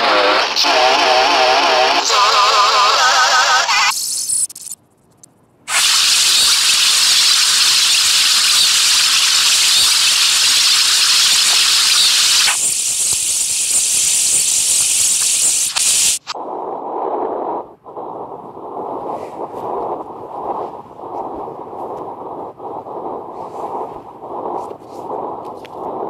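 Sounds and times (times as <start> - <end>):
harsh hiss of noise: 0.0 - 4.4, 5.7 - 26.0.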